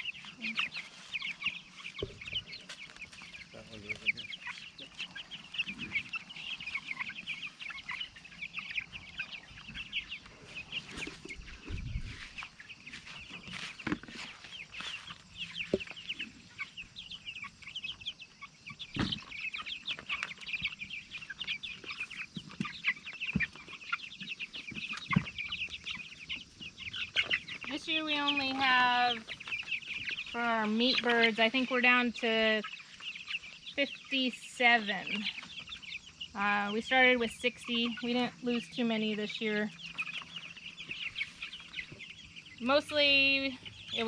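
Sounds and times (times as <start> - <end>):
chicks chirping and peeping: 0.0 - 44.0.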